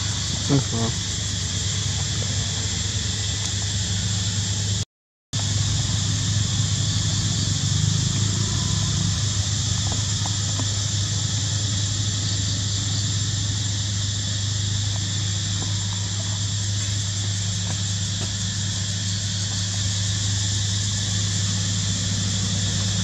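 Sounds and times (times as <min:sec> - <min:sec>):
forest insects droning: 0:00.0 - 0:04.8, 0:05.4 - 0:23.0
steady low hum: 0:00.0 - 0:04.8, 0:05.4 - 0:23.0.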